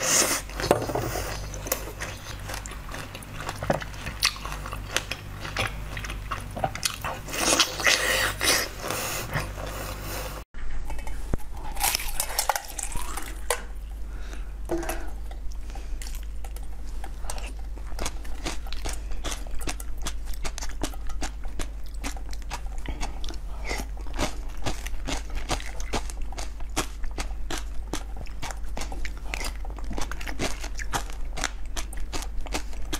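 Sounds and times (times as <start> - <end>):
crunching and chewing: 0.0 - 10.0, 10.9 - 13.7, 15.2 - 32.9
steady low hum: 0.0 - 32.9.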